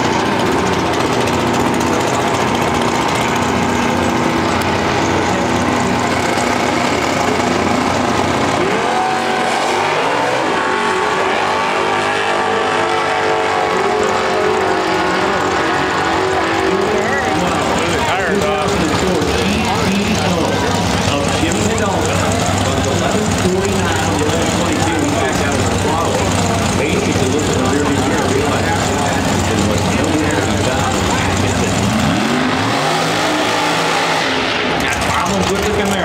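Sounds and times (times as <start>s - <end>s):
drag race car engines revving: 0.0s - 36.0s.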